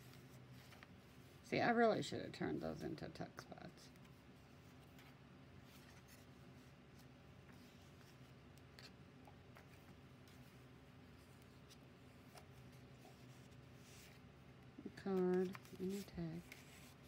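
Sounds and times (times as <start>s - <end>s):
paper pages rustling: 0.0s - 1.4s, 3.9s - 14.3s, 14.9s - 17.0s
low steady hum: 0.0s - 17.0s.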